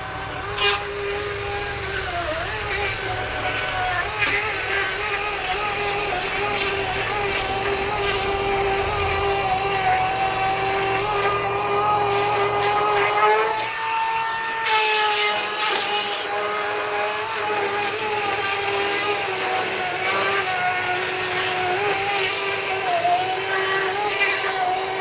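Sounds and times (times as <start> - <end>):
battery chainsaw cutting log: 0.0 - 25.0.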